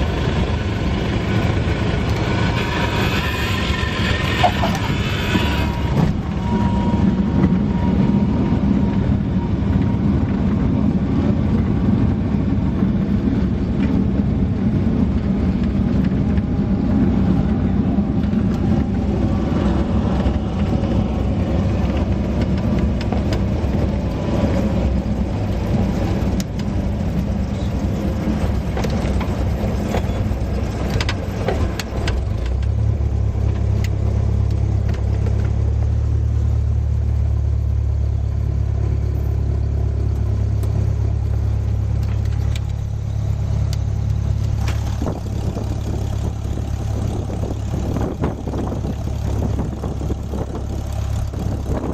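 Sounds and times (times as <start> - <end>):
propeller plane engine running: 0.0 - 51.9.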